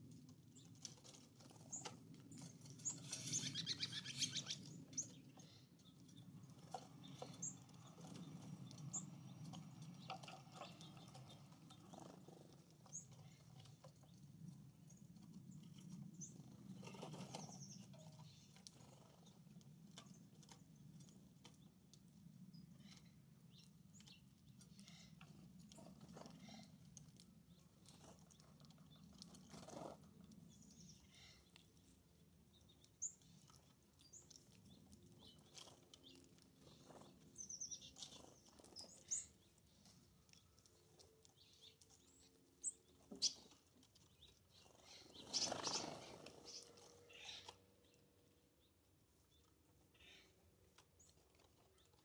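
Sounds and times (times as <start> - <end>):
birds pecking at seed: 0.0 - 52.0
songbirds chirping: 0.0 - 52.0.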